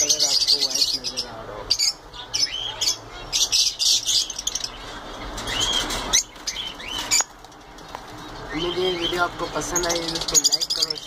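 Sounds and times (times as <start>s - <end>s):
budgerigars chirping: 0.0s - 7.4s, 8.1s - 11.0s.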